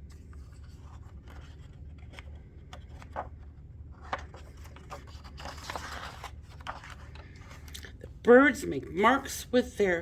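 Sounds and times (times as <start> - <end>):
book pages rustling: 0.0 - 8.0
low room hum: 0.0 - 10.0.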